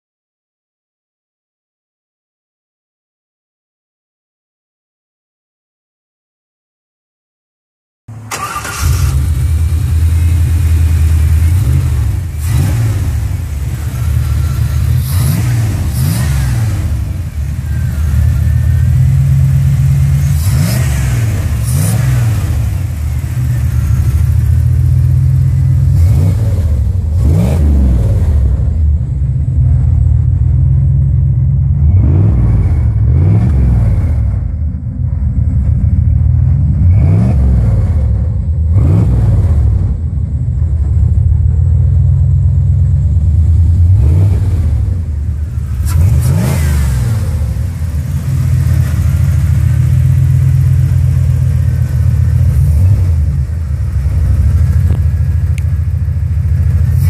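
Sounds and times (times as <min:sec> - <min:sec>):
engine revving: 0:08.1 - 0:40.2, 0:40.8 - 0:57.0
car engine idling: 0:08.1 - 0:57.0.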